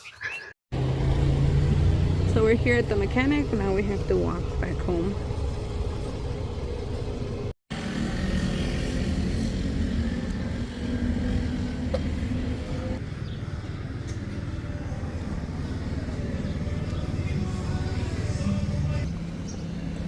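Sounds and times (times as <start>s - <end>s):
cars passing on a street: 0.7s - 20.0s.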